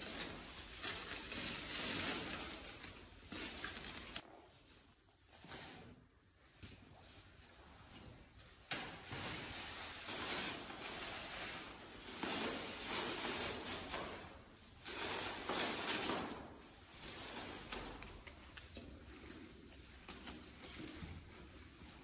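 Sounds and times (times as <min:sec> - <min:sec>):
fabric and plastic wrapping rustling: 0:00.0 - 0:22.0.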